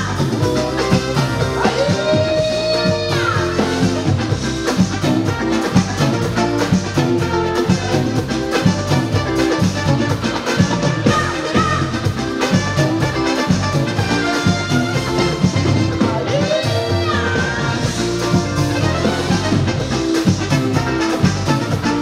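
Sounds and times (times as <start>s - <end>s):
bass guitar: 0.0s - 22.0s
drum kit: 0.0s - 22.0s.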